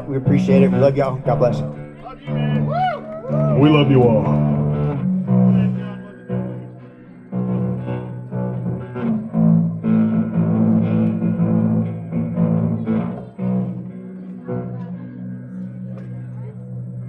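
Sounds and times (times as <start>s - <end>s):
electric bass guitar low notes: 0.0s - 17.0s.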